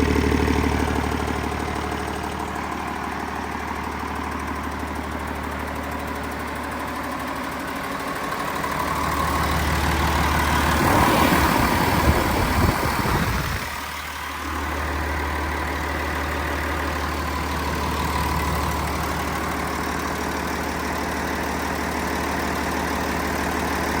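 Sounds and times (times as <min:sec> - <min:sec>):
diesel engine revving and idling: 0:00.0 - 0:24.0.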